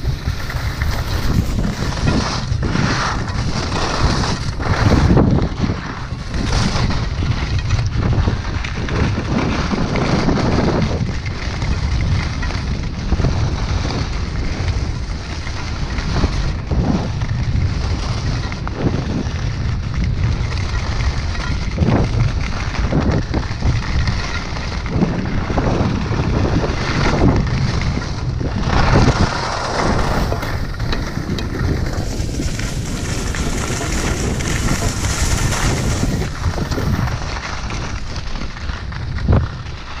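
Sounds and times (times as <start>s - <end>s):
skis scraping packed snow: 0.0s - 40.0s
wind buffeting microphone: 0.0s - 40.0s.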